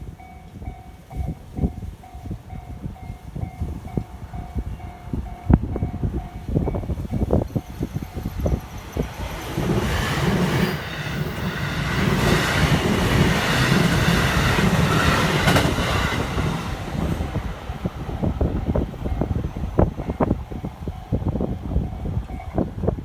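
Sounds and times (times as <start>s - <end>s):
electric train rumbling past: 0.0s - 23.0s.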